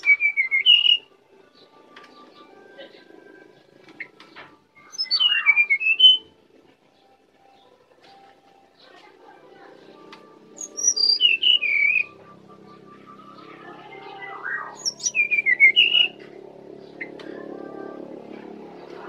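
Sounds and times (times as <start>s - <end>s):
bird singing warbled phrases: 0.0s - 19.0s.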